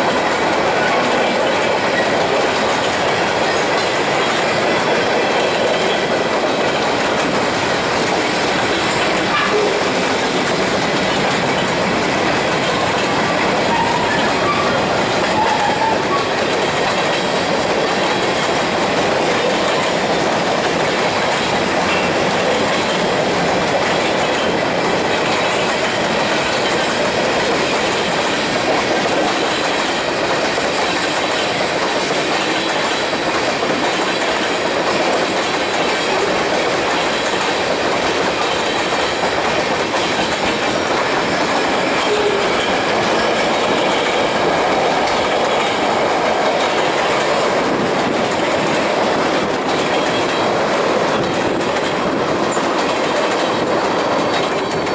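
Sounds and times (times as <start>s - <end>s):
clickety-clack over rail joints: 0.0s - 54.9s
train wheels rolling on rails: 0.0s - 54.9s.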